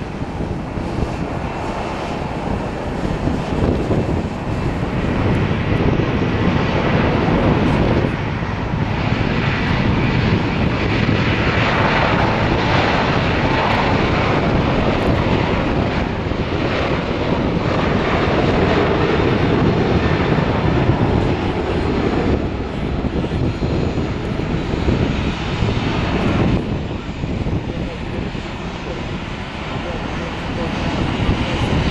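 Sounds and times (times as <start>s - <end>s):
jet engines at takeoff: 0.0s - 31.9s.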